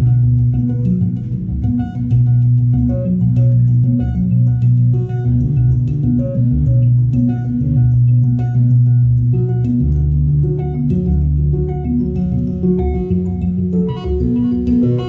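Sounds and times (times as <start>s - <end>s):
deep synth bass line: 0.0s - 15.0s
plucked synth notes: 0.0s - 15.0s.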